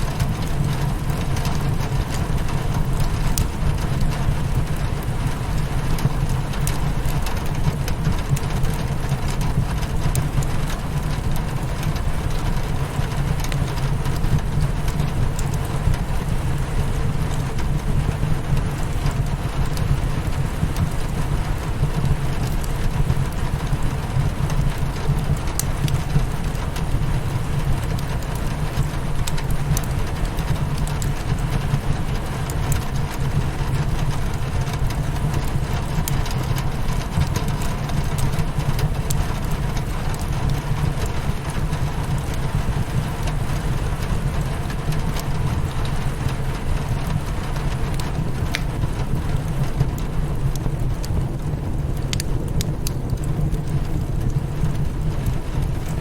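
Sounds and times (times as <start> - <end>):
fireplace crackling: 0.0 - 56.0
rain hitting a window: 0.0 - 56.0.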